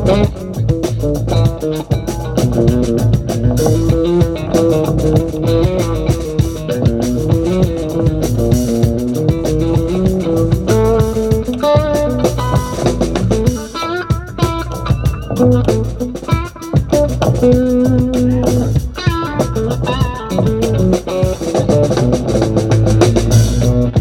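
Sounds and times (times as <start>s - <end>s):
lead guitar notes: 0.0s - 24.0s
reggae band playing: 0.0s - 24.0s.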